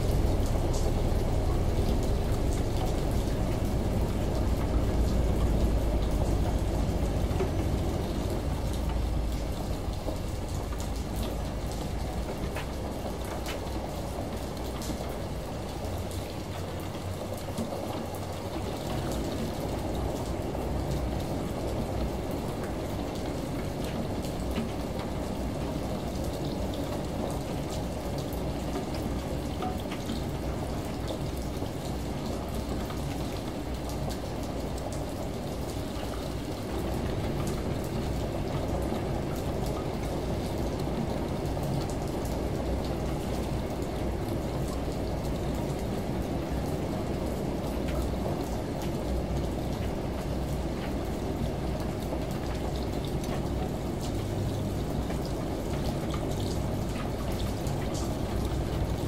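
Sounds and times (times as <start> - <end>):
rain heard from indoors: 0.0 - 59.0
shower running: 0.0 - 59.0
washing machine droning: 0.0 - 59.0.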